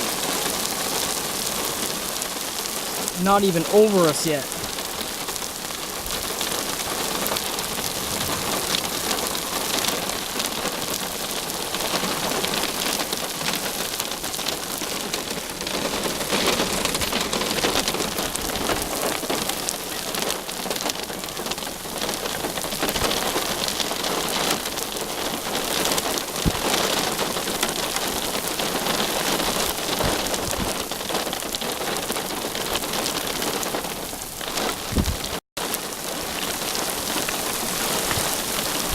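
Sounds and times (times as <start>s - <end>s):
heavy rain pelting down: 0.0s - 38.9s.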